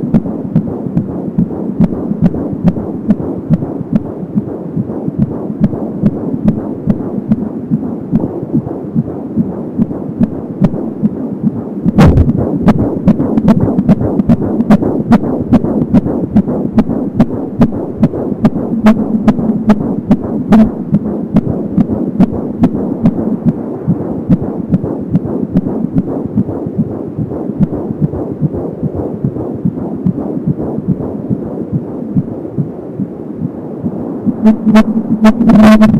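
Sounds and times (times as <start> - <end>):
fetal heartbeat through doppler speaker: 0.0 - 35.9
steady whooshing hum: 0.0 - 35.9.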